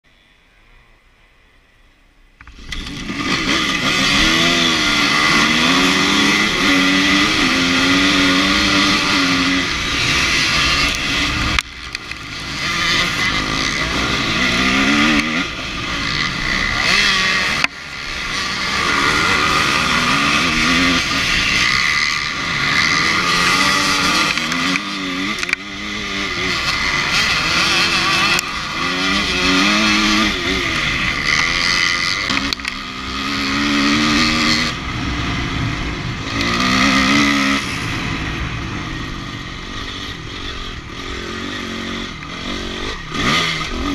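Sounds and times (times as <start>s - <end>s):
motorcycle engines at full throttle: 1.9s - 43.9s
motorcycle engine revving hard: 2.5s - 43.9s.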